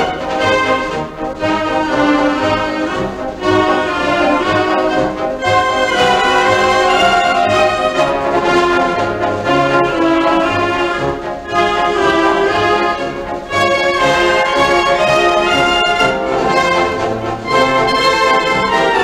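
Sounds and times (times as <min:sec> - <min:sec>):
military band playing a march: 0:00.0 - 0:19.0.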